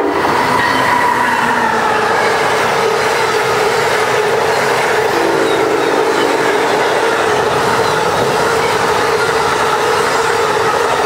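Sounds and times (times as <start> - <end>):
wheels rushing on rail: 0.0 - 11.0.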